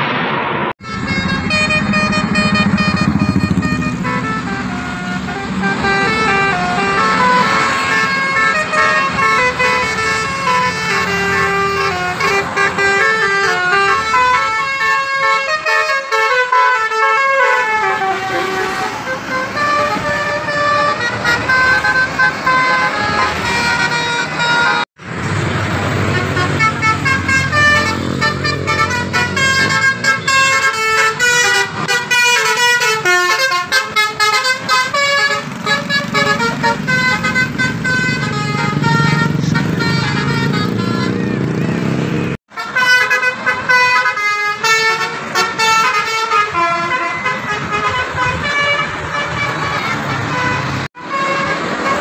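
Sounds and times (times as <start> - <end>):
bus engine rumble: 0.0 - 52.0
bus horns playing rapid notes: 0.8 - 52.0.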